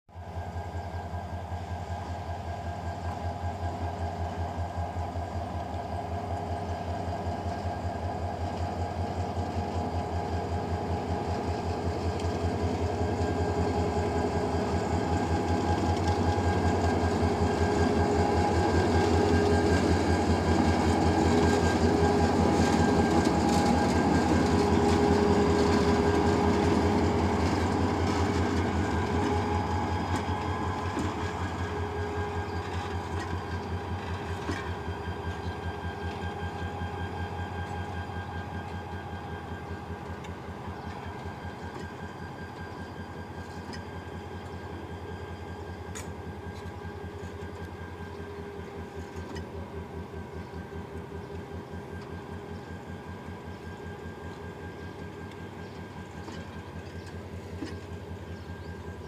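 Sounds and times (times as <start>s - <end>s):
diesel locomotive engine passing: 0.1s - 59.0s.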